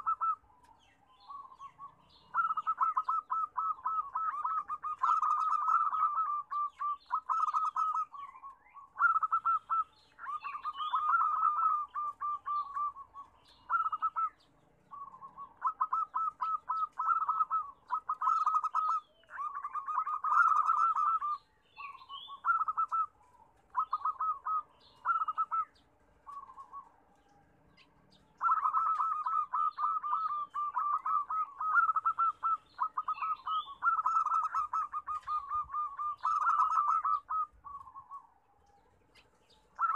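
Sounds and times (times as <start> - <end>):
doves cooing in trills: 0.0 - 39.9.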